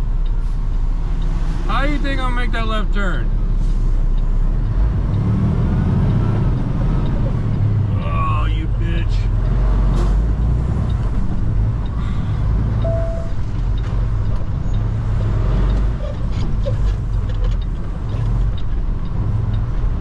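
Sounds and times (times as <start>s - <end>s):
truck diesel engine drone: 0.0s - 20.0s.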